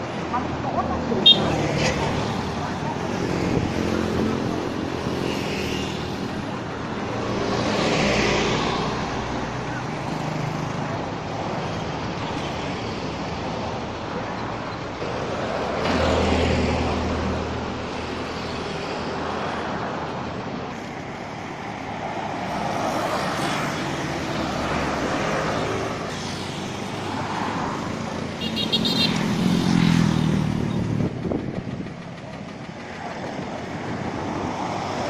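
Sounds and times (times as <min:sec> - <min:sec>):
road traffic passing: 0:00.0 - 0:35.0.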